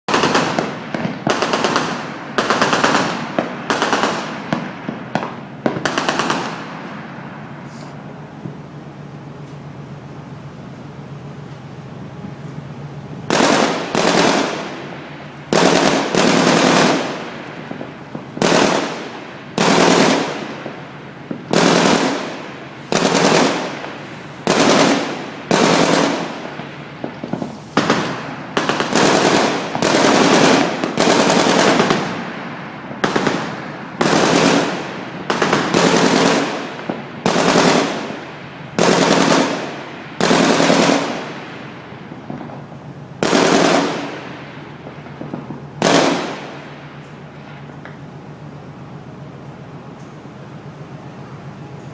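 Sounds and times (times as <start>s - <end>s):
gunfire bursts: 0.1s - 8.7s, 13.2s - 47.1s.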